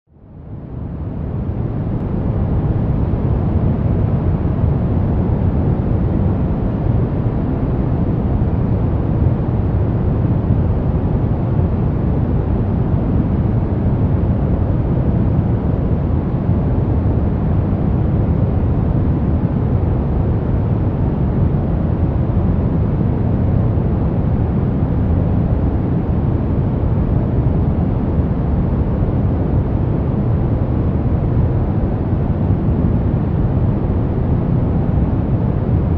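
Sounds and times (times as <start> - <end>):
deep brown noise: 0.1 - 35.9.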